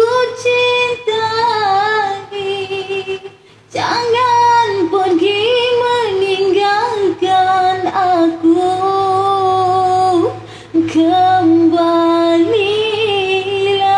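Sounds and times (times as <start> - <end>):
woman singing unaccompanied: 0.0 - 13.9.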